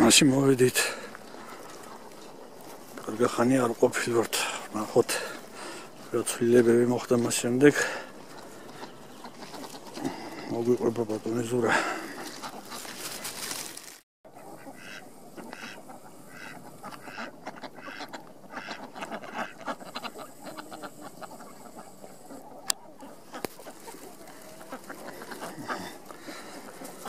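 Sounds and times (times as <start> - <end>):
ducks quacking: 0.0 - 13.6, 14.3 - 27.0.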